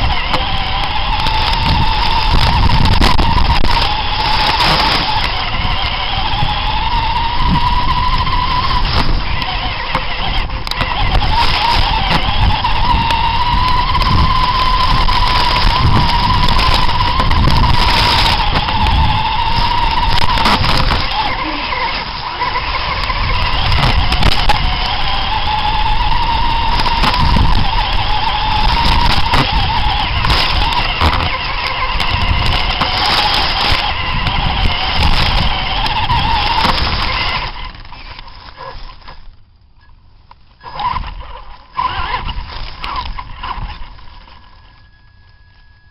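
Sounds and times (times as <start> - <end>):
toy trucks knocking and clattering: 0.0 - 39.4
rough rumble: 0.0 - 45.9
toy truck motor whine: 0.0 - 45.9.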